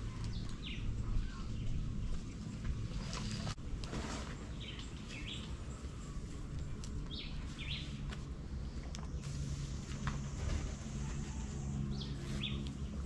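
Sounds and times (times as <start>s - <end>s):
birds chirping: 0.0s - 3.5s, 4.3s - 9.6s, 10.8s - 13.0s
low background hum: 0.0s - 13.0s.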